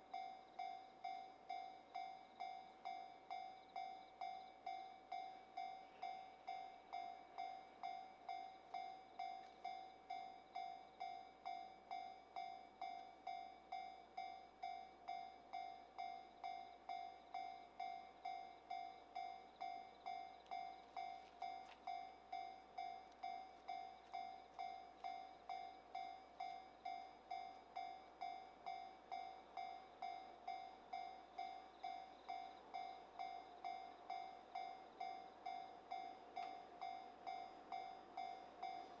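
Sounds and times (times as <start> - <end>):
level-crossing warning bell dinging: 0.0 - 39.0.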